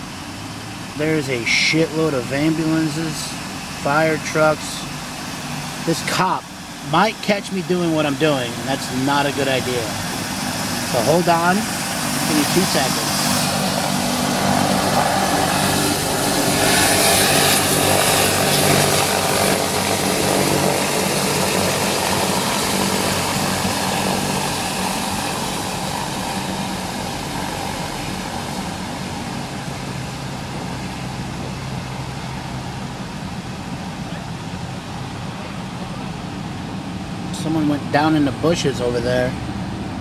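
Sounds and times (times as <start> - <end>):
rushing engine noise: 0.0 - 40.0.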